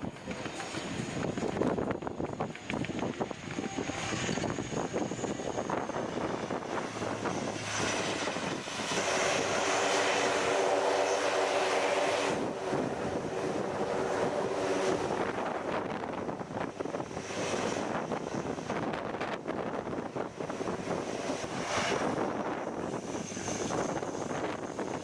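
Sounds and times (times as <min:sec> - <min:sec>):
plane flying past: 0:00.0 - 0:25.0.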